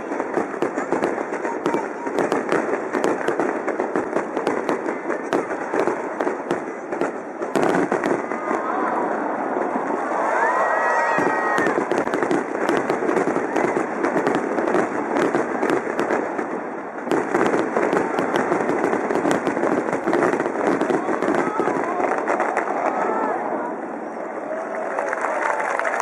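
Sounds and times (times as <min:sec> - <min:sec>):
fireworks bursting: 0:00.0 - 0:24.5.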